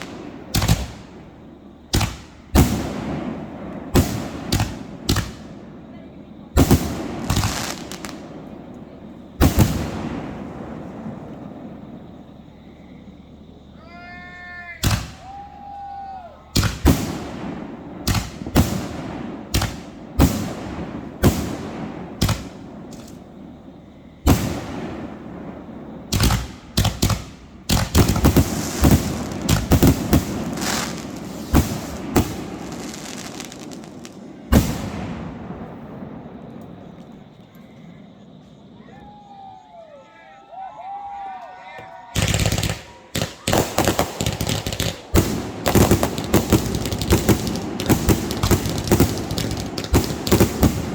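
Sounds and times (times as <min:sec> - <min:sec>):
fireworks bangs with crackling: 0:00.0 - 0:39.5, 0:41.8 - 0:50.9.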